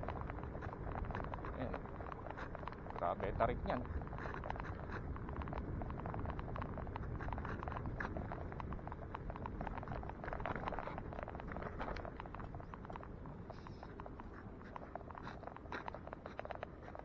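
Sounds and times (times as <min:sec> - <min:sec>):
tyre and wind rumble: 0:00.0 - 0:17.0.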